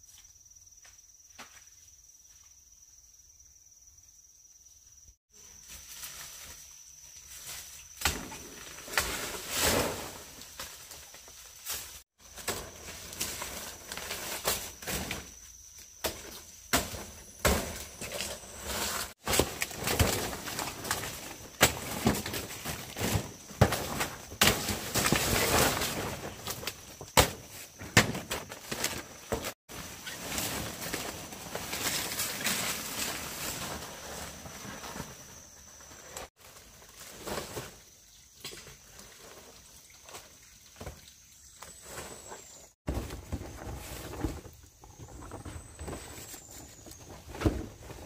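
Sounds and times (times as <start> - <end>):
insect trill: 0.0 - 48.0.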